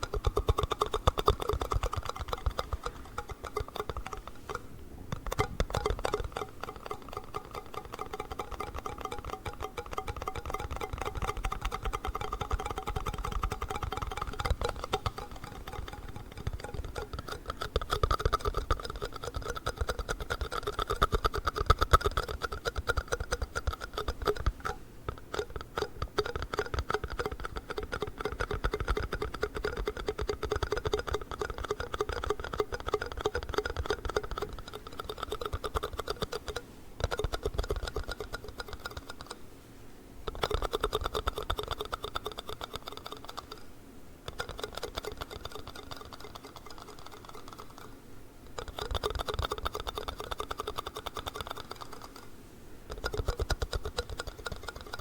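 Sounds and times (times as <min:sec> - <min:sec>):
tapping and scratching on plastic cups: 0:00.0 - 0:39.4, 0:40.3 - 0:43.6, 0:44.3 - 0:47.9, 0:48.5 - 0:52.2, 0:52.9 - 0:55.0.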